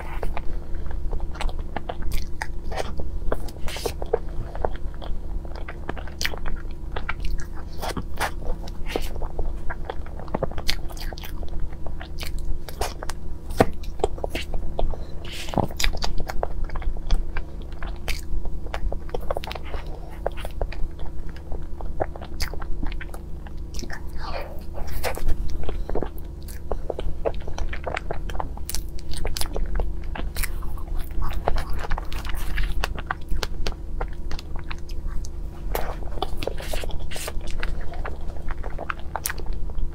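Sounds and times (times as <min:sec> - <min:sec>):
biting and chewing: 0:00.0 - 0:39.9
steady low hum: 0:00.0 - 0:39.9.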